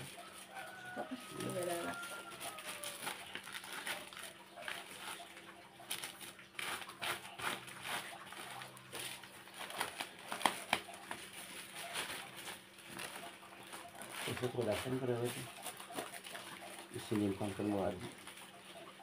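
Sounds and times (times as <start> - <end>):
plastic bags rustling: 0.0 - 19.0.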